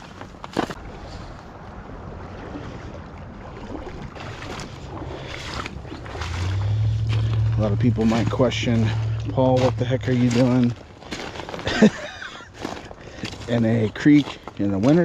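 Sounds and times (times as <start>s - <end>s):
boots wading through creek: 0.0s - 15.0s
water swishing and splashing: 0.0s - 15.0s.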